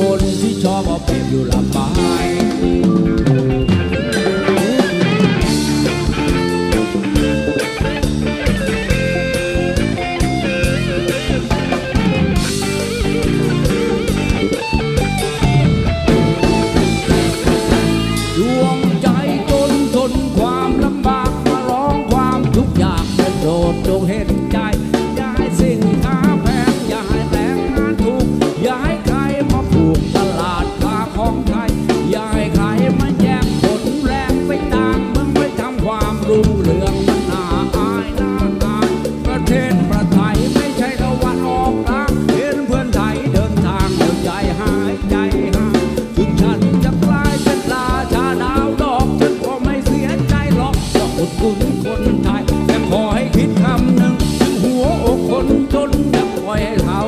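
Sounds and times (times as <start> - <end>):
man singing: 0.0 - 14.6, 15.2 - 57.0
bass guitar: 0.0 - 57.0
drum kit: 0.0 - 57.0
electric guitar: 0.0 - 57.0.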